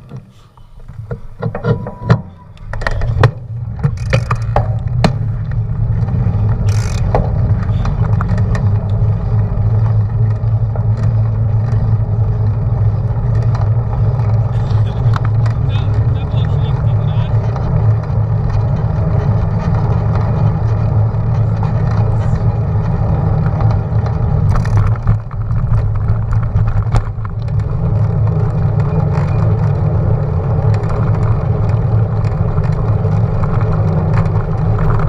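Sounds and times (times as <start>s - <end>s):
tyre noise on asphalt: 0.0s - 35.0s.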